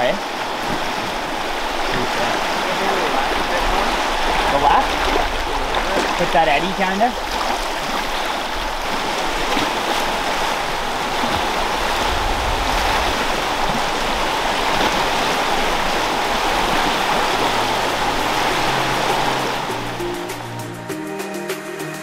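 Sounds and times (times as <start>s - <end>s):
river water rushing through rapids: 0.0s - 20.6s.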